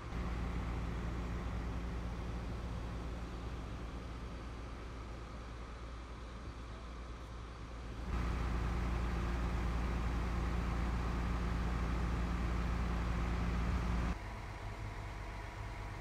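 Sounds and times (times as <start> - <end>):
diesel engines idling: 0.0 - 16.0.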